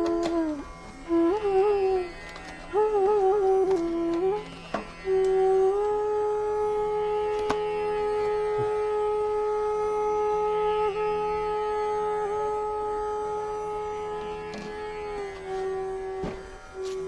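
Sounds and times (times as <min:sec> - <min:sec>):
bamboo flute long note: 0:00.0 - 0:02.1, 0:02.7 - 0:17.0.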